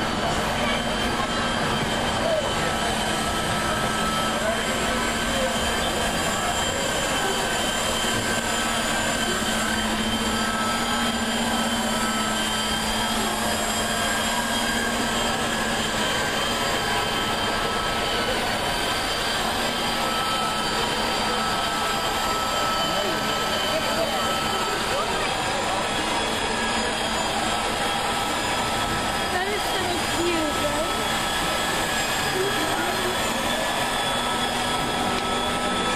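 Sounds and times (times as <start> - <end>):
ship deck machinery drone: 0.0 - 35.9
thin steady whining tones: 0.0 - 35.9.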